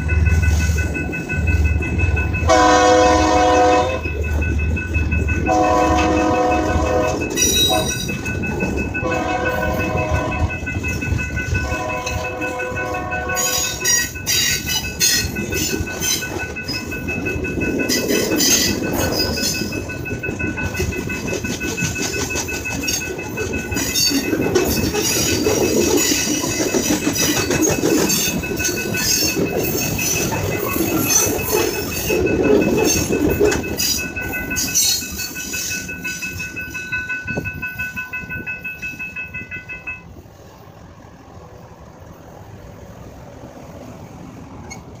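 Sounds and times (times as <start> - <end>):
train wheels clacking over rail joints: 0.0 - 39.8
crossing bell ringing: 0.0 - 45.0
street sound: 0.0 - 45.0.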